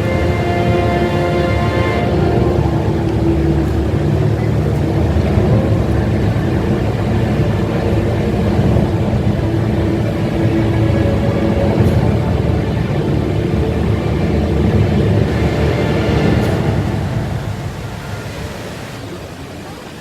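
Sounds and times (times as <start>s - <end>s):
faint music: 0.0s - 20.0s
indoor waterfall rushing: 0.0s - 20.0s.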